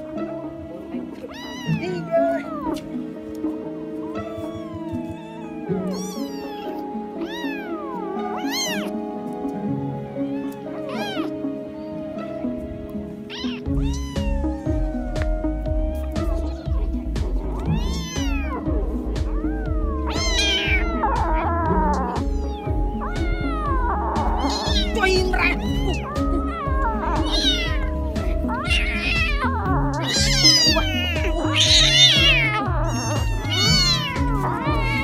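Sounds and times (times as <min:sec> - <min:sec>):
background music: 0:00.0 - 0:35.0
kittens meowing: 0:01.1 - 0:12.2, 0:13.2 - 0:35.0.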